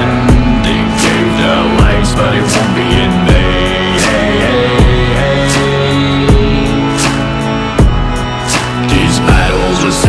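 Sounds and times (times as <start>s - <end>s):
music with heavy beat: 0.0s - 10.0s.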